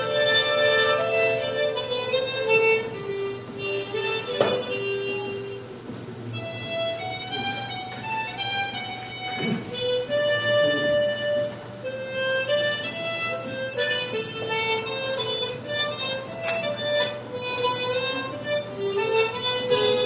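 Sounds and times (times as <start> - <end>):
harmonica duet: 0.0 - 20.0.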